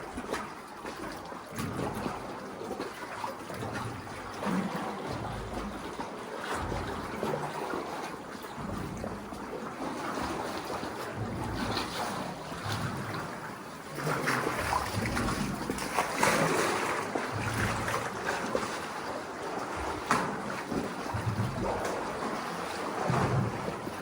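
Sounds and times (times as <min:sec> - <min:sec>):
water splashing and lapping: 0:00.0 - 0:24.0.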